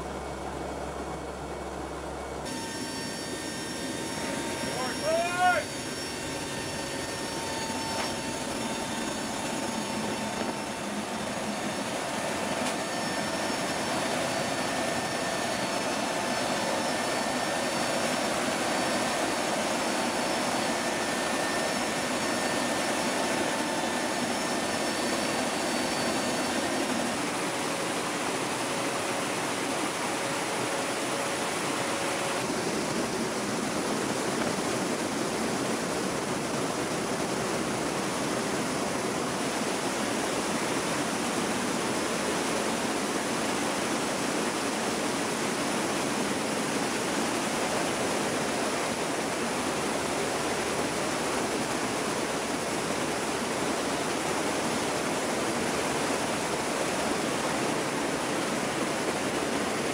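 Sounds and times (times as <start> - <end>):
faint steady engine tones: 0.0 - 59.9
turboprop engine noise: 0.0 - 59.9.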